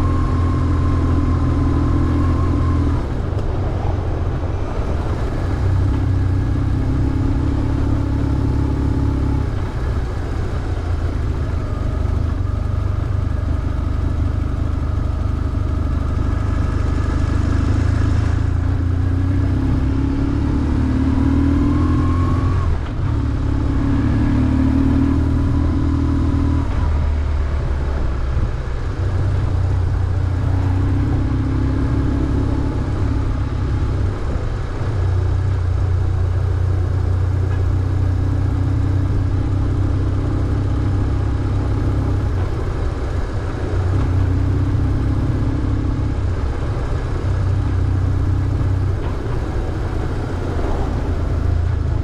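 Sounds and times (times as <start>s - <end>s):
motorcycle engine revving: 0.0s - 28.1s, 28.8s - 52.0s.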